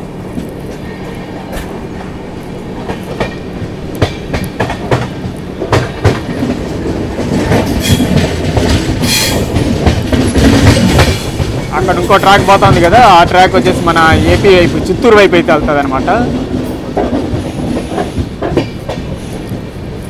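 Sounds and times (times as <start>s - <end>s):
steady train rumble: 0.0s - 20.0s
train wheels clattering over rail joints: 2.8s - 19.8s.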